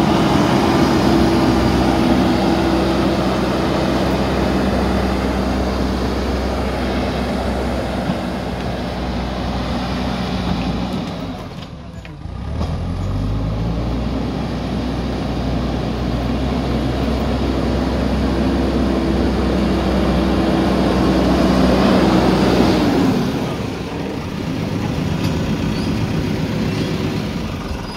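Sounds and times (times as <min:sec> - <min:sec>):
diesel engine running under load: 0:00.0 - 0:27.9.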